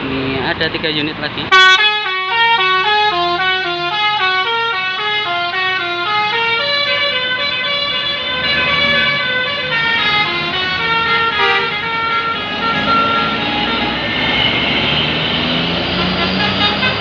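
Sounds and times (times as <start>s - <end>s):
bus engine and tyre noise: 0.0s - 17.0s
bus musical horn tune: 1.5s - 14.1s, 15.8s - 17.0s.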